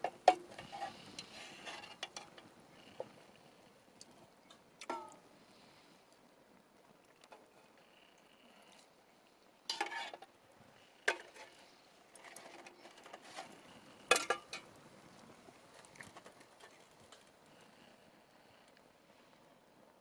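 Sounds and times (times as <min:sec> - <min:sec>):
faint sizzle: 0:00.0 - 0:20.0.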